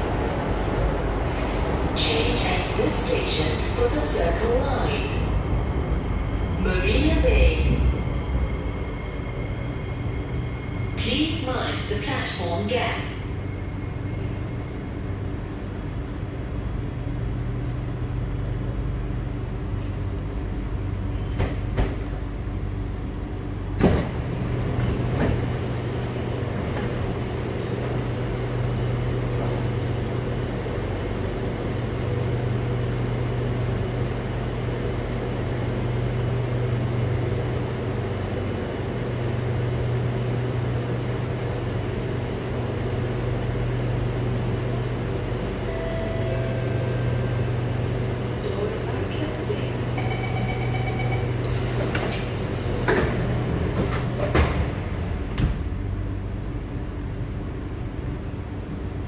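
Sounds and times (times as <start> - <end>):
metro train running hum: 0.0 - 59.0.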